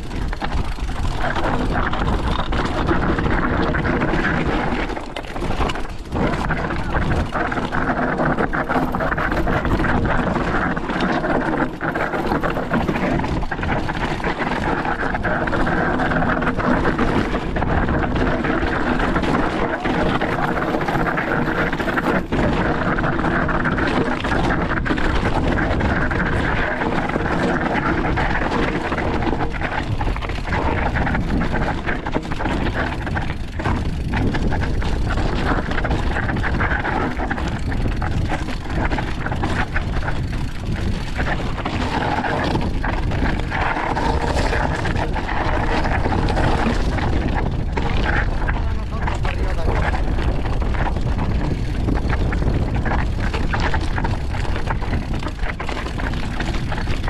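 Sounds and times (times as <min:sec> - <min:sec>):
bike rattling: 0:00.0 - 0:57.0
mountain bike riding noise: 0:00.0 - 0:57.0.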